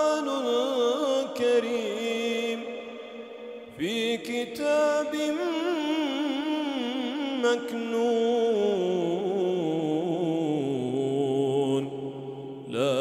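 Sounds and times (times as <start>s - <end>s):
man chanting recitation: 0.0s - 3.1s, 3.7s - 13.0s.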